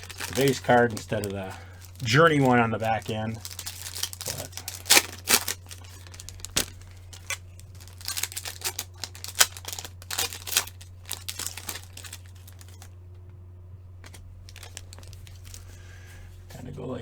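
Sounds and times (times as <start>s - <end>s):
foil wrappers crinkling: 0.0s - 13.1s, 14.0s - 16.6s
low electrical hum: 0.0s - 17.0s.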